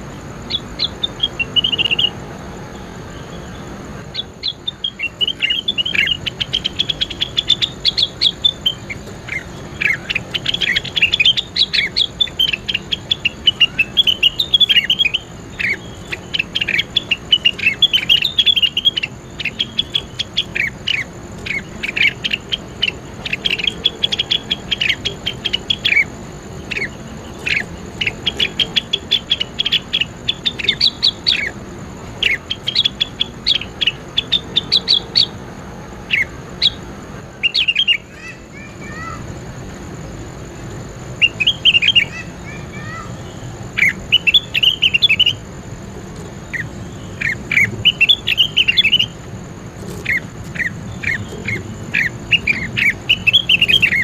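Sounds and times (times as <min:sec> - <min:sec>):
songbird chattering song: 0:00.0 - 0:54.0.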